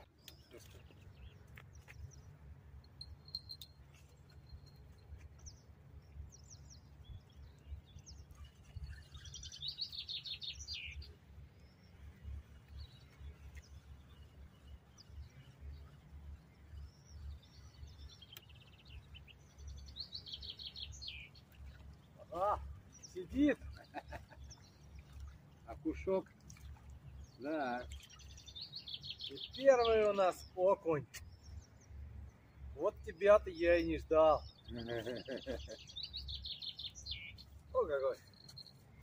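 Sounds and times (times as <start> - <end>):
small birds singing: 0.0 - 39.0.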